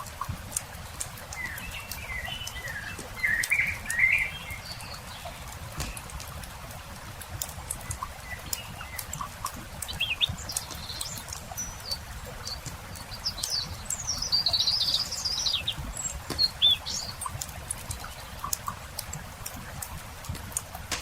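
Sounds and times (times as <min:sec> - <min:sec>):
small birds chirping: 0:00.0 - 0:20.8
campfire crackling: 0:00.0 - 0:21.0.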